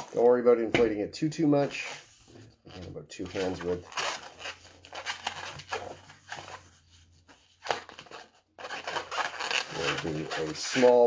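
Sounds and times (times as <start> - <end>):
balloon latex rubbing and rustling: 1.6 - 11.0.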